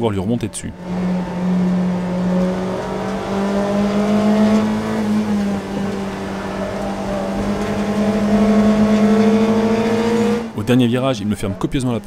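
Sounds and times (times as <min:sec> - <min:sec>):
race car engine running hard: 0:00.7 - 0:10.9.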